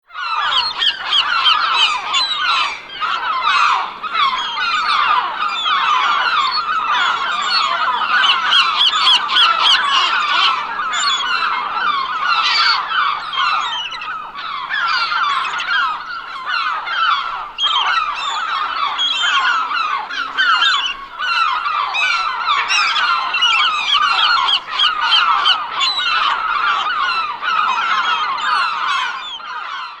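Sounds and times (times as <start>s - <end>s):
seagulls calling: 0.0s - 30.0s.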